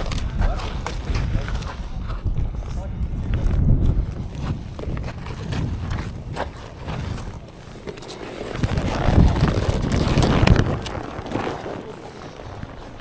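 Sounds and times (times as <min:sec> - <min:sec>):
horse hooves on ground: 0:00.0 - 0:13.0
low microphone rumble: 0:00.0 - 0:13.0.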